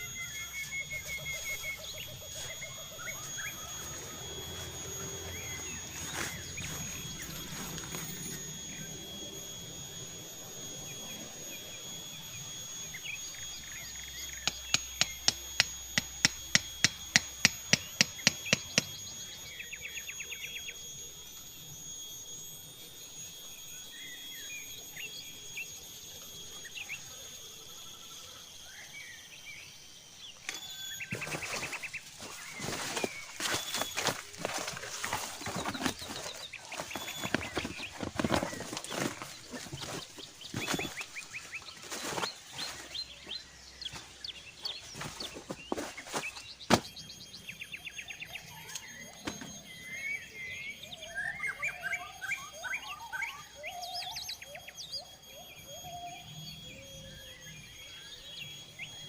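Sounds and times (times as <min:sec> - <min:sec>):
bird chirps: 0:00.0 - 0:59.0
high-pitched insect drone: 0:00.0 - 0:59.0.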